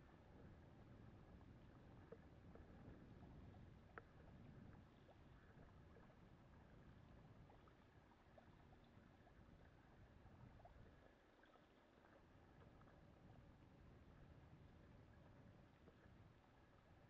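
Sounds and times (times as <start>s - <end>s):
small splashes and ticks: 0.0s - 17.0s.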